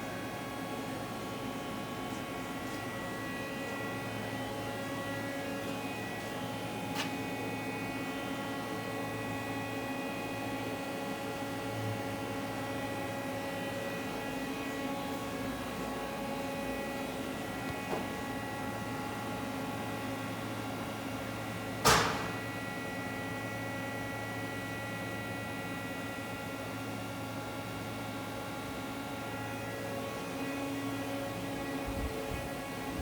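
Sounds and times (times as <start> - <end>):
machinery hum: 0.0 - 33.0.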